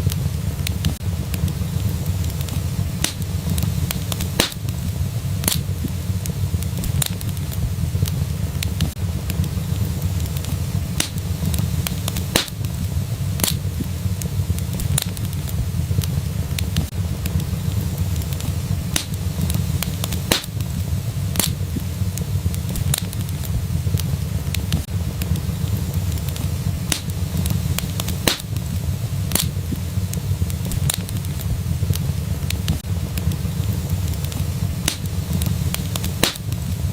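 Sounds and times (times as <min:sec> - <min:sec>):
low rumble of flames: 0:00.0 - 0:36.9
wood fire crackling: 0:00.0 - 0:36.9.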